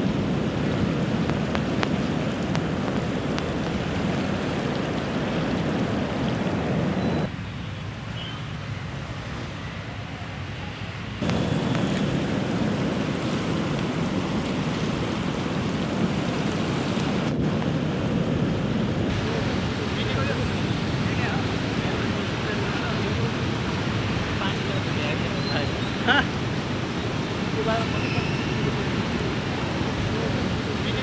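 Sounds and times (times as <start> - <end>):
river water rushing: 0.0 - 7.4, 11.2 - 17.4, 18.6 - 31.0.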